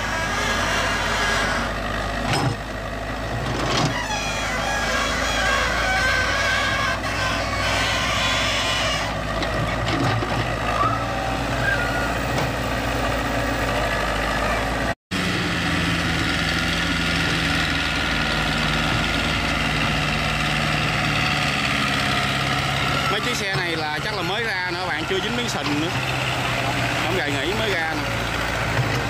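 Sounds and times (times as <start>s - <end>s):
excavator diesel engine running: 0.0s - 29.0s
tracked cart diesel engine: 0.0s - 29.0s.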